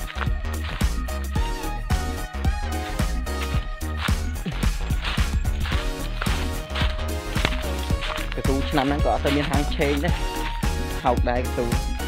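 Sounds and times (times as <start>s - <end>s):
background music with steady beat: 0.0s - 12.0s
deep bass: 0.0s - 12.0s.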